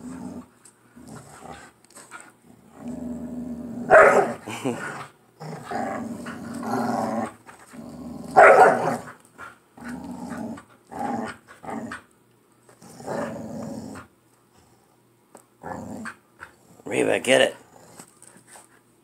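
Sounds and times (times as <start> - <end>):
dogs growling: 0.0 - 12.1, 12.7 - 14.1, 15.6 - 16.9, 17.6 - 18.1.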